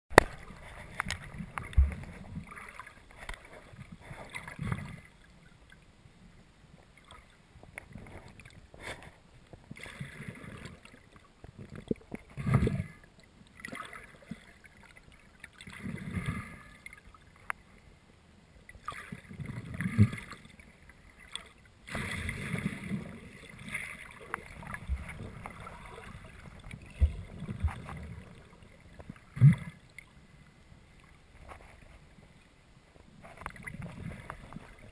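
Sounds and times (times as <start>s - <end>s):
muffled water sloshing: 0.1s - 17.8s, 18.6s - 34.9s.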